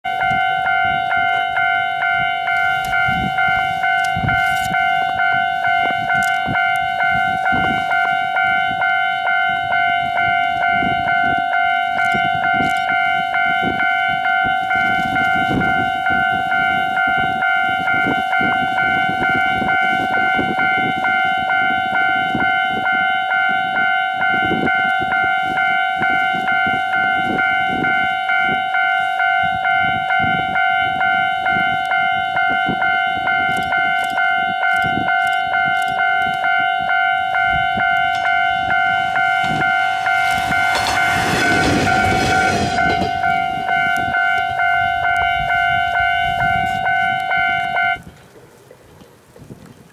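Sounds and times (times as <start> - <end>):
level crossing warning bell ringing: 0.0 - 48.1.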